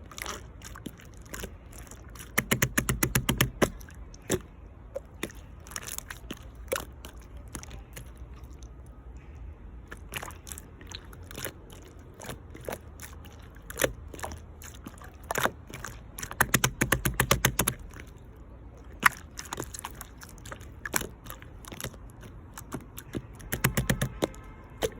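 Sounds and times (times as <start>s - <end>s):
slime worked by hand: 0.0s - 9.0s, 9.9s - 24.9s.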